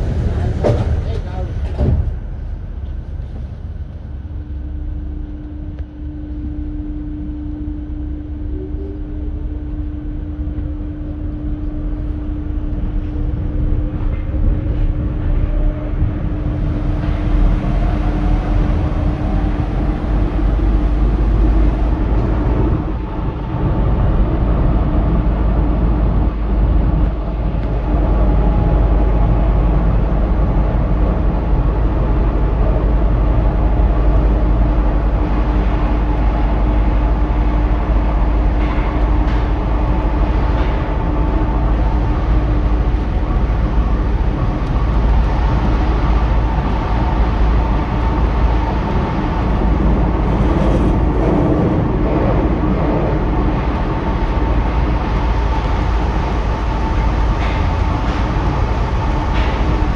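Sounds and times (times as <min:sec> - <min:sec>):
train running gear rumble: 0:00.0 - 0:59.9
train motor whine: 0:01.7 - 0:59.9
steady electrical tone: 0:02.3 - 0:59.9.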